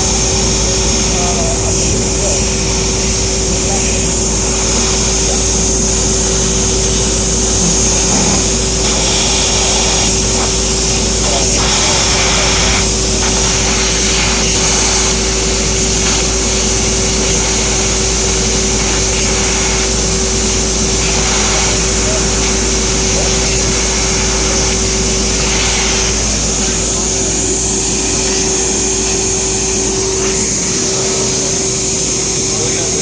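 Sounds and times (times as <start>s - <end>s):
bright cutting hiss: 0.0s - 33.0s
laser cutter machine hum: 0.0s - 33.0s.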